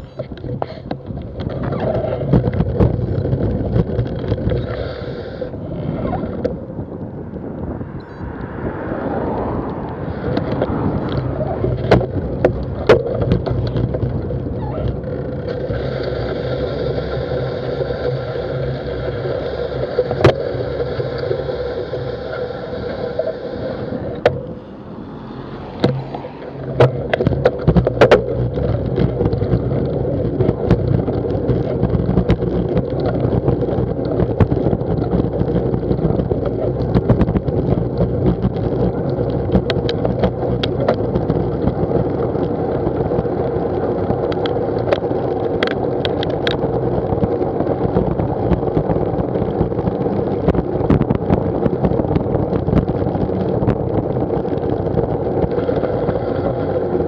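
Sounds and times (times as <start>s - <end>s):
bike clicks and rattles: 0.0s - 8.3s, 9.2s - 24.8s, 25.5s - 57.0s
tyres rumbling on wet tarmac: 0.0s - 57.0s
wind: 0.0s - 57.0s.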